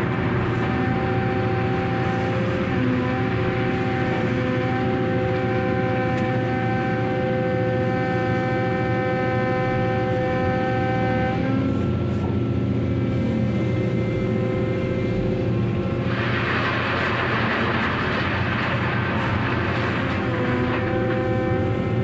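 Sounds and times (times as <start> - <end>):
heavy machinery rumbling: 0.0 - 22.0
multi-tone machine whine: 0.0 - 22.0.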